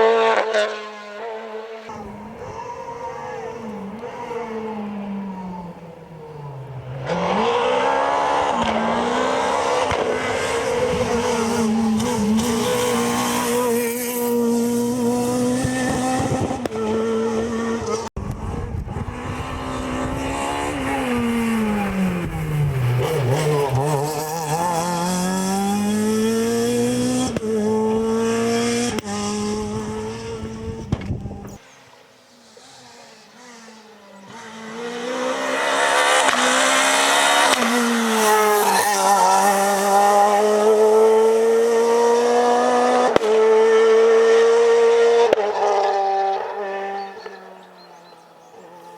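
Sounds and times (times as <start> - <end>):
rally car engine revving: 0.0 - 31.6, 32.3 - 48.9.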